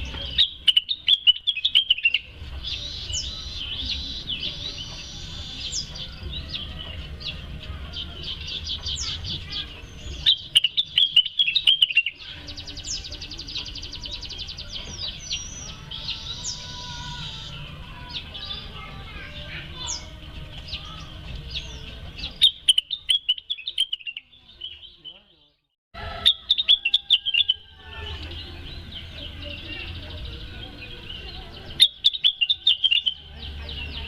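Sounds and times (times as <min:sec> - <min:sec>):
bird chirping and trilling: 0:00.0 - 0:34.0.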